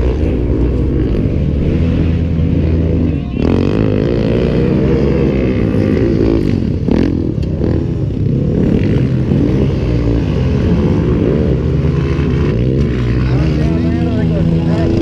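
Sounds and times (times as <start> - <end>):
racing mower engines revving: 0.0 - 15.0.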